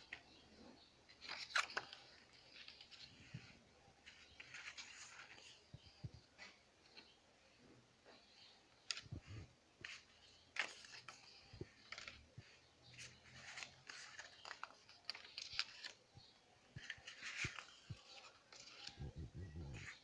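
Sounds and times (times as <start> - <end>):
paper strips rustling: 1.1 - 7.2, 8.0 - 20.0.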